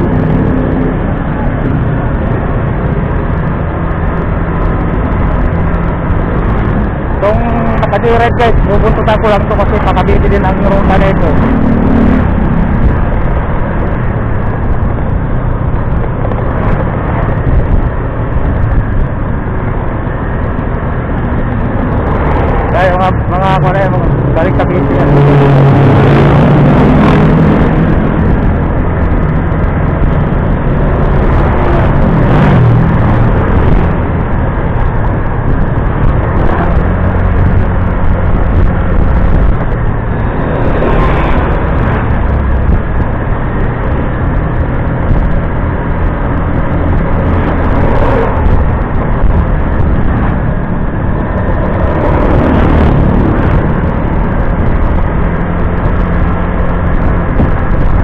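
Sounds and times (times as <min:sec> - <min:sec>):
road noise: 0:00.0 - 0:58.0
wind rushing on microphone: 0:00.0 - 0:58.0.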